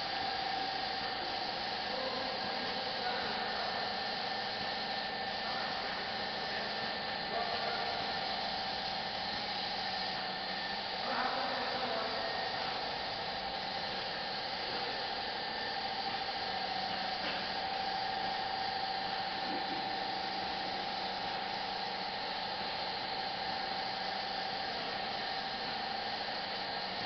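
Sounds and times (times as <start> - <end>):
paint sprayer hissing: 0.0 - 27.0.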